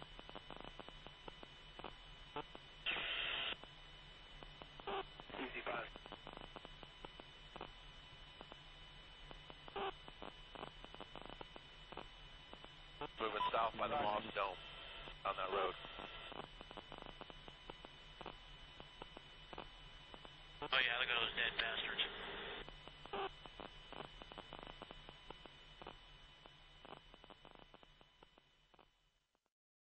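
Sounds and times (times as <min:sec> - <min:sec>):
radio channel hum: 0:00.1 - 0:03.7, 0:04.3 - 0:27.9
radio clicks and crackles: 0:00.1 - 0:03.7, 0:04.4 - 0:28.5.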